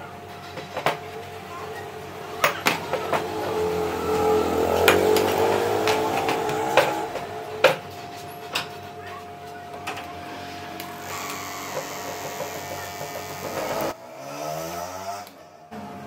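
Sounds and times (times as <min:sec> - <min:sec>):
steady whine: 0:01.0 - 0:14.1.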